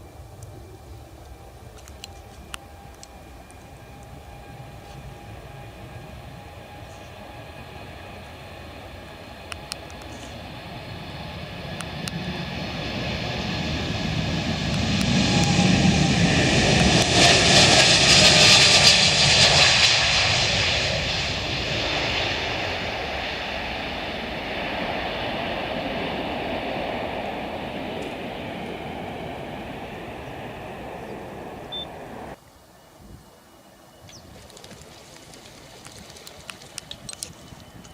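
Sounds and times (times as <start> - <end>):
jet airliner engines on takeoff: 0.0 - 32.4, 34.0 - 37.9.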